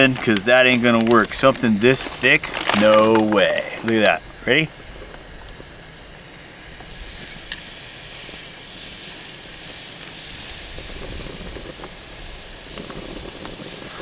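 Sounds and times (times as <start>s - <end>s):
faint crackles: 0.0s - 14.0s
steak sizzling on a grill: 0.0s - 14.0s.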